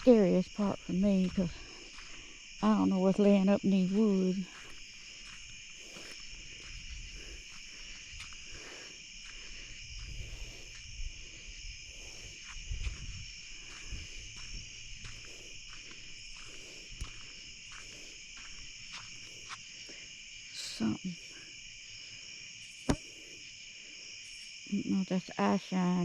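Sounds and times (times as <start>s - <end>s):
crickets and katydids chirping: 0.0s - 26.0s.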